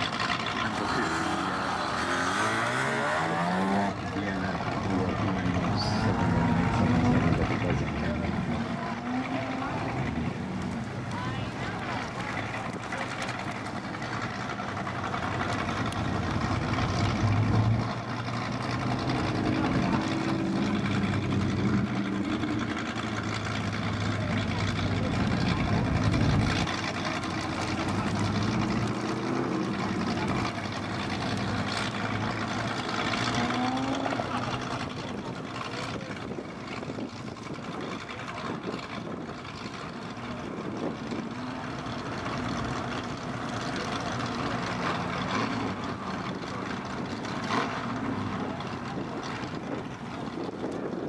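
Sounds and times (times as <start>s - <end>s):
rotary engine revving: 0.0s - 51.0s.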